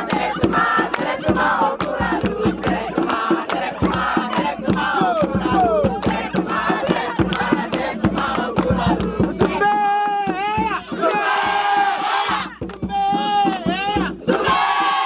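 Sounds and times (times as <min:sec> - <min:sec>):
crowd shouting and chanting: 0:00.0 - 0:15.0
fast percussive beats: 0:00.0 - 0:15.0.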